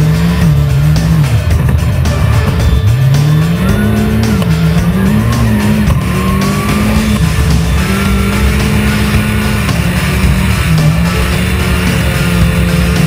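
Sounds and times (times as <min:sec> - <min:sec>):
background music: 0:00.0 - 0:13.0
rally car engine revving: 0:00.0 - 0:13.0.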